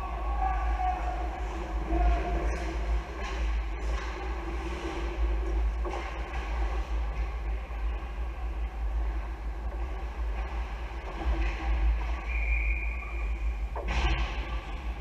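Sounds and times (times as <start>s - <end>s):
haze of crowd noise: 0.0s - 15.0s.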